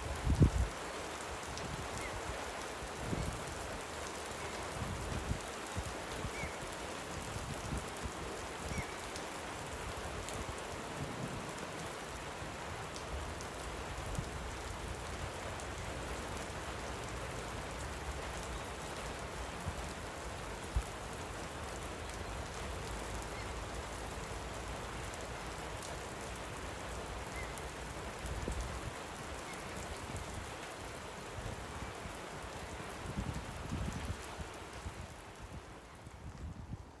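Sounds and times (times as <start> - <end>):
light rain pattering: 0.0 - 37.0.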